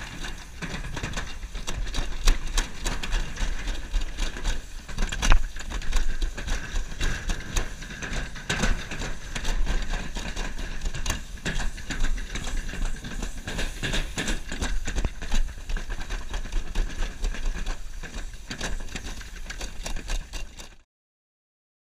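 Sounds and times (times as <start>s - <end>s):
knocks and rattles: 0.0s - 20.8s
sled rumbling down metal trough: 0.0s - 20.8s.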